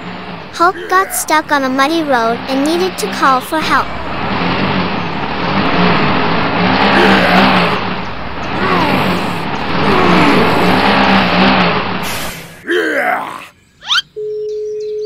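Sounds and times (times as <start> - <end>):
wheels spinning in mud: 0.0 - 12.6
tractor engine revving: 0.0 - 12.8.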